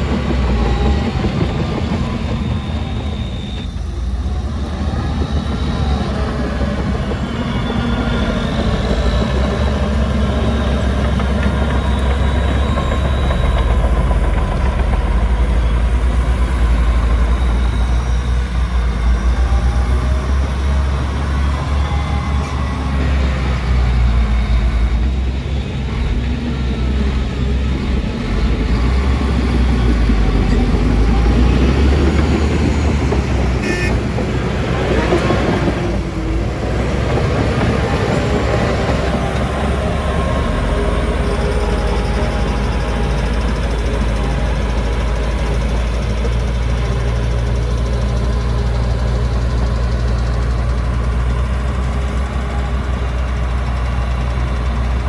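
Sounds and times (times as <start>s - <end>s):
bulldozer diesel engine running: 0.0s - 55.0s
metal tracks squealing: 0.0s - 55.0s.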